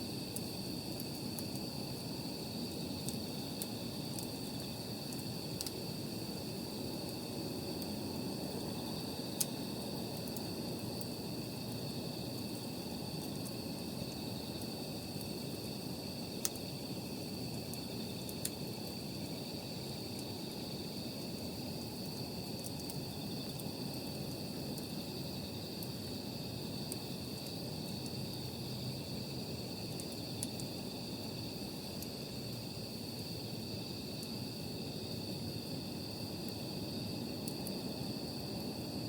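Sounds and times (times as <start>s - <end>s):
night insects trilling: 0.0s - 39.0s
campfire crackling pops: 0.3s - 25.0s, 25.6s - 32.7s, 37.3s - 37.8s.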